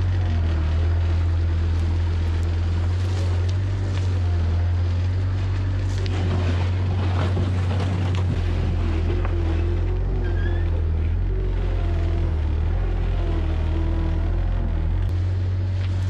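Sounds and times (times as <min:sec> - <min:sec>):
bucket pushing through soil: 0:00.0 - 0:14.0
skid steer engine running: 0:00.0 - 0:16.0.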